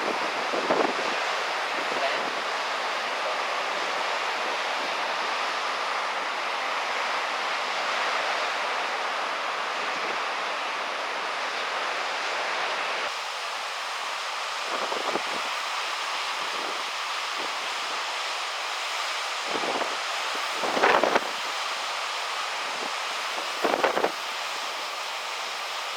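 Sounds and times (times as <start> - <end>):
surf: 0.0 - 25.9
wind: 0.0 - 25.9.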